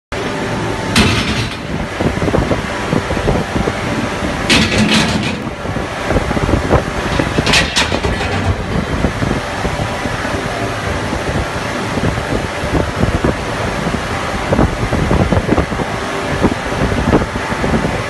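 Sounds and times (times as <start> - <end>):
ring rolling machine running: 0.1 - 18.0.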